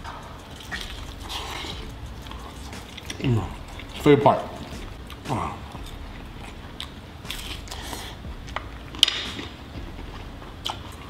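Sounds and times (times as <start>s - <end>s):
falling hum: 0.0s - 11.0s
man chewing food: 0.0s - 11.0s.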